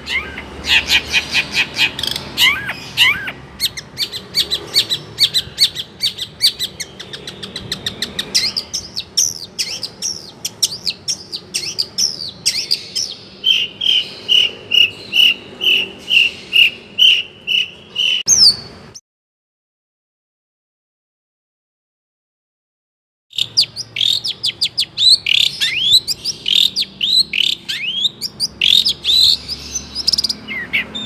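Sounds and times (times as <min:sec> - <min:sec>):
shrike singing varied song: 0:00.0 - 0:19.0, 0:23.3 - 0:31.0.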